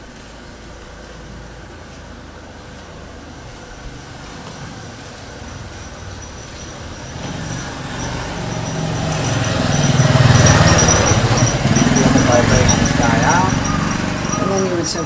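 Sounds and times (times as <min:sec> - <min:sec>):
large vehicle rumble: 0:01.1 - 0:15.0.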